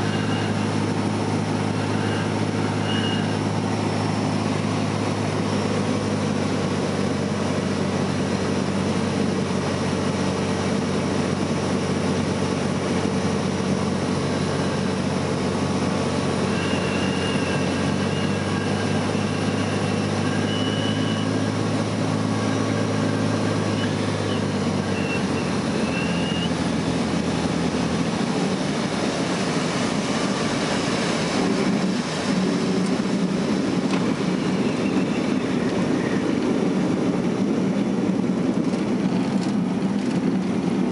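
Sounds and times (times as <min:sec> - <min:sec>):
light aircraft engine from cabin: 0:00.0 - 0:40.9
wheels rumbling on grass: 0:00.0 - 0:40.9.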